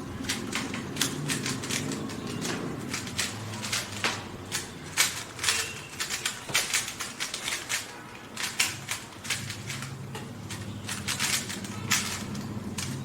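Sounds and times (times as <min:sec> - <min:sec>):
plastic puzzle cube clicking: 0:00.2 - 0:13.0.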